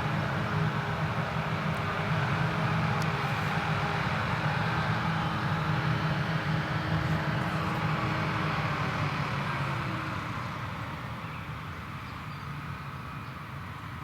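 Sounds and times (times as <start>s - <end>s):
forage harvester diesel engine droning: 0.0s - 14.0s.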